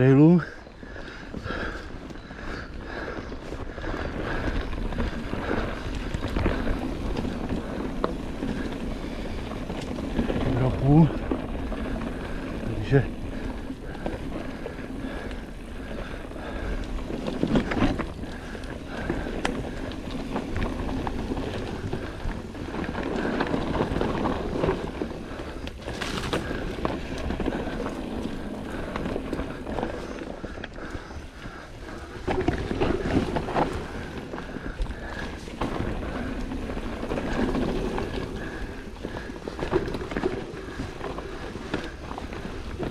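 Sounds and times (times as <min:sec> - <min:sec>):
bike rattling and knocking: 0:00.0 - 0:42.9
bike tyres rolling on dirt: 0:00.0 - 0:42.9.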